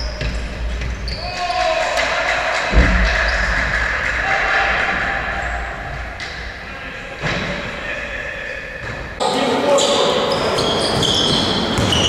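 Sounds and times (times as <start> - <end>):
players calling: 0.0 - 12.0.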